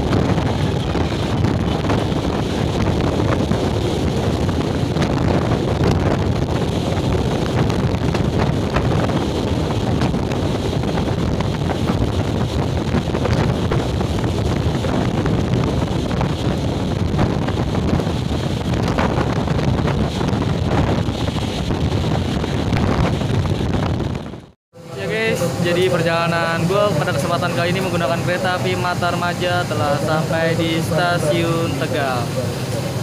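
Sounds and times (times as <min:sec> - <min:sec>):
train wheels rumbling on rails: 0:00.0 - 0:33.0
wind rushing over microphone: 0:00.0 - 0:33.0.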